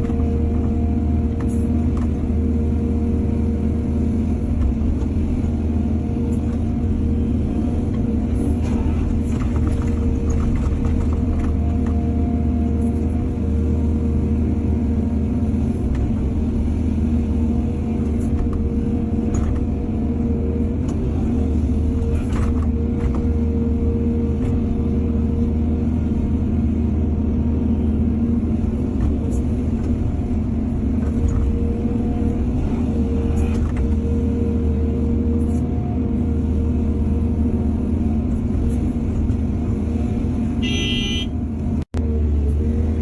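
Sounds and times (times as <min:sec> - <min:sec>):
excavator diesel engine: 0:00.0 - 0:43.0.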